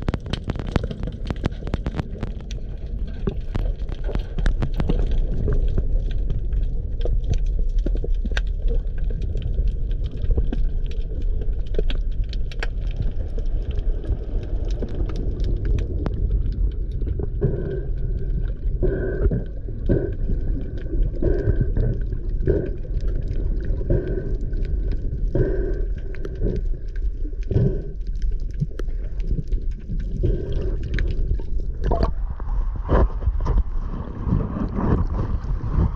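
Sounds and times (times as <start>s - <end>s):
sharp clicks and crackles: 0.0s - 35.9s
underwater rumble of moving water: 0.0s - 35.9s.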